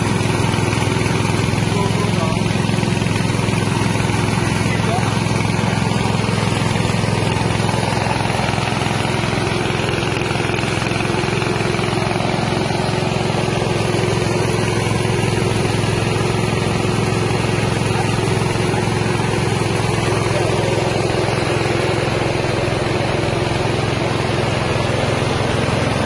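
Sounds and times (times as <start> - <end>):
rice milling machine drone: 0.0 - 26.0.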